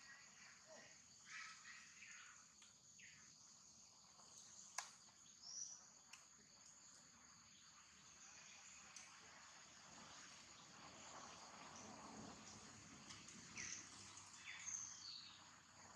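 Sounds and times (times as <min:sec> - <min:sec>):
insects chirring: 0:00.0 - 0:15.9.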